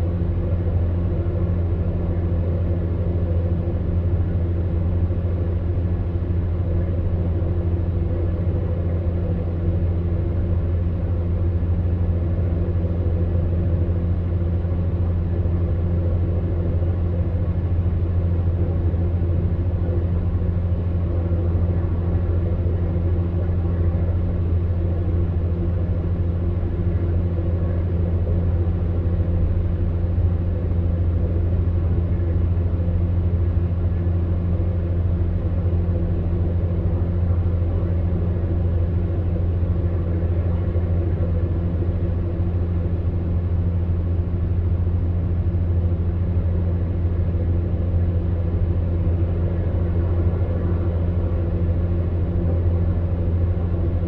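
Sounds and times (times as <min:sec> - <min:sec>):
electric fan heater running: 0:00.0 - 0:54.0.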